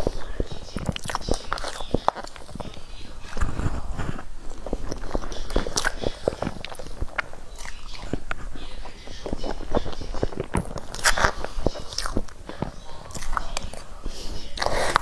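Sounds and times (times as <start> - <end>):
wet mouth chewing sounds: 0.0 - 15.0.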